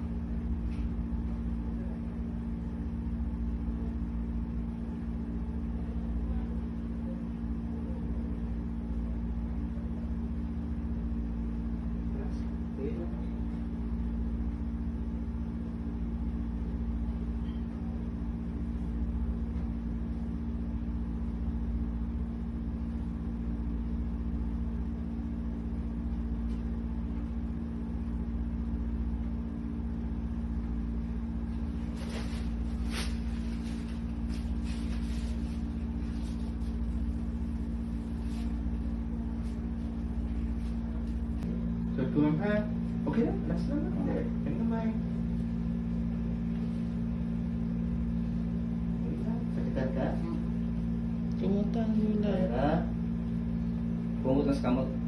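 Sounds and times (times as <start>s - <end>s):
low machine hum with rumble: 0.0s - 55.0s.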